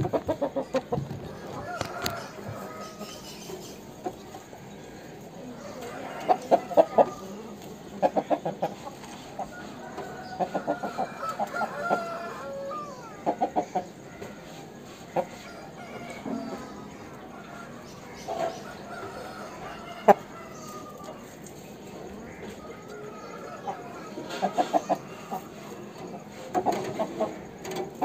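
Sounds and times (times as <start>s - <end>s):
roosters clucking: 0.0s - 28.0s.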